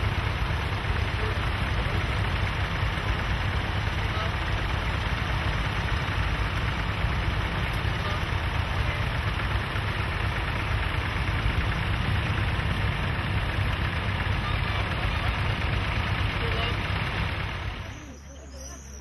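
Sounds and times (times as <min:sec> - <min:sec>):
tractor engines idling and running: 0:00.0 - 0:19.0.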